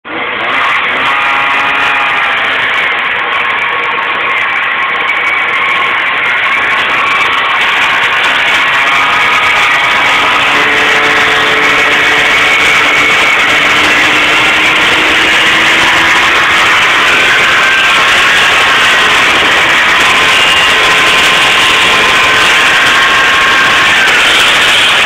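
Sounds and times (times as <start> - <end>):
snowmobile engine drone: 0.1 - 25.0.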